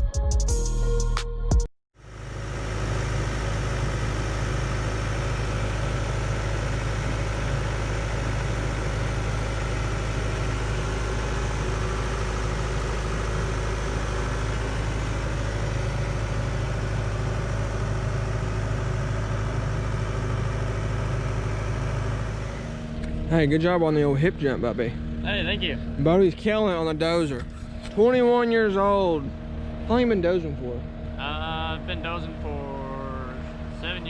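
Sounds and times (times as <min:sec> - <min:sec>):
diesel engine running: 0:02.0 - 0:34.0.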